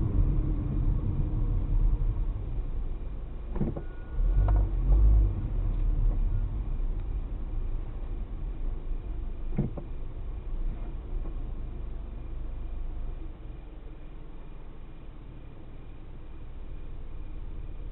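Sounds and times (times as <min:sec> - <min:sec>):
car engine and road rumble: 0:00.0 - 0:17.9.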